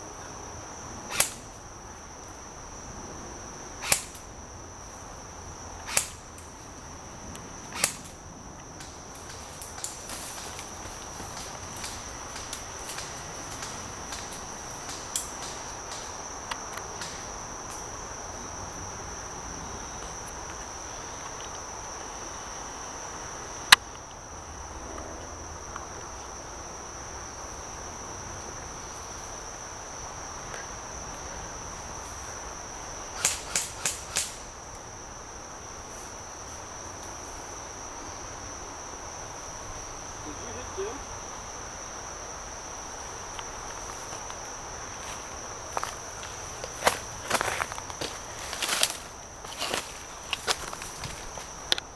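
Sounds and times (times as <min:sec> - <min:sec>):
crickets trilling: 0:00.0 - 0:51.9.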